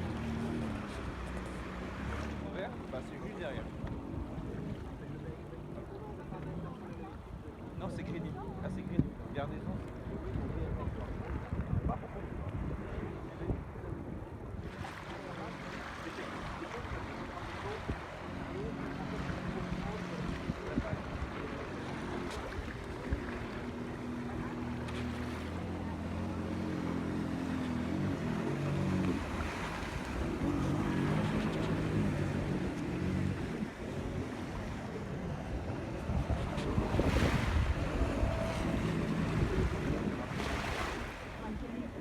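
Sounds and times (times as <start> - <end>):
jet ski engine revving: 0.0 - 42.0
water and wind noise: 0.0 - 42.0.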